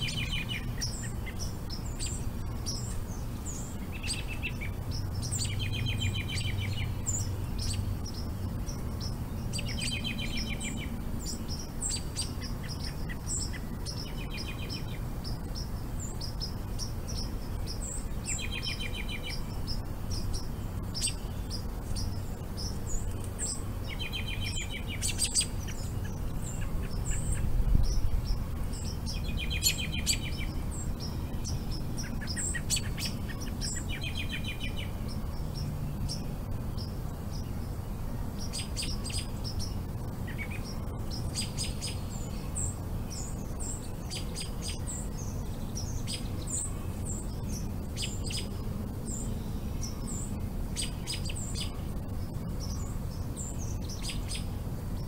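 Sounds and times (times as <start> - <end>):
rapid bird trill: 0.0 - 55.0
small birds chirping: 0.0 - 55.0
steady low rumble: 0.0 - 55.0.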